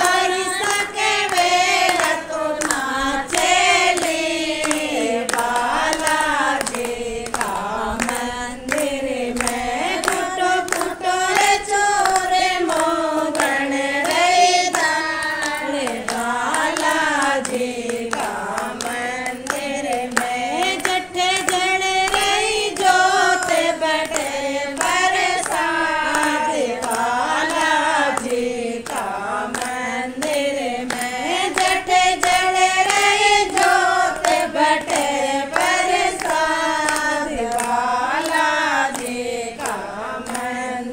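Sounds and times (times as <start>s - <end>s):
hand claps: 0.0s - 40.9s
person singing devotional song: 0.0s - 40.9s.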